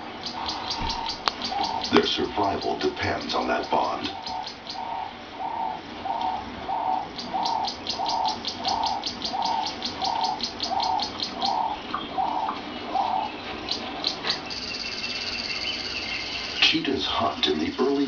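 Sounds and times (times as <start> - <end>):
bird cooing: 0.0 - 16.1
fast high bird chirping: 0.0 - 16.8.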